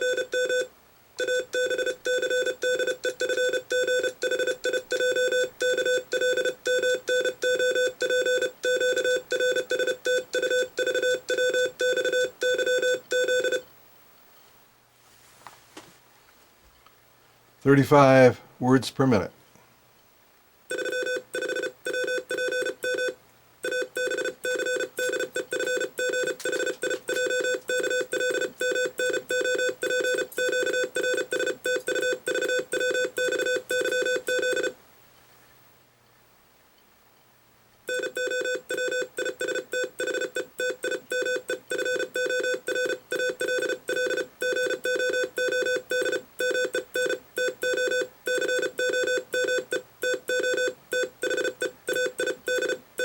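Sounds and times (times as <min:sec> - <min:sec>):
fast morse code tone: 0:00.0 - 0:13.6, 0:20.7 - 0:34.7, 0:37.9 - 0:52.8.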